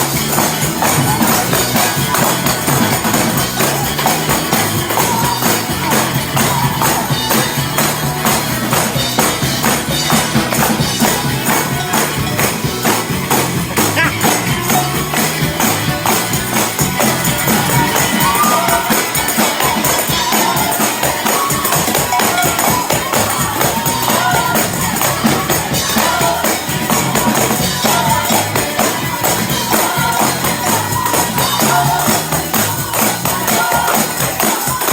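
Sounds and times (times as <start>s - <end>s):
tambourines jingling: 0.0s - 34.9s
voices shouting and singing: 0.0s - 34.9s.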